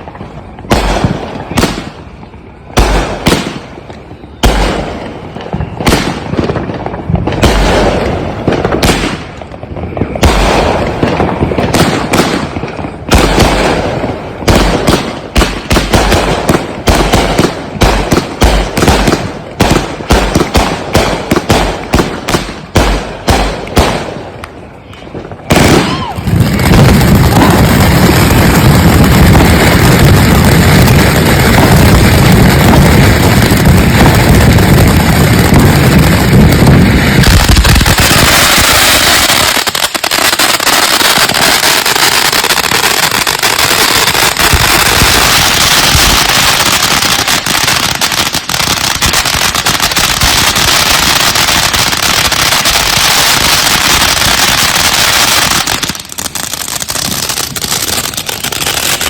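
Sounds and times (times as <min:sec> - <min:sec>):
fireworks booming: 0:00.0 - 0:59.0
fireworks crackling and hissing: 0:00.0 - 0:59.0.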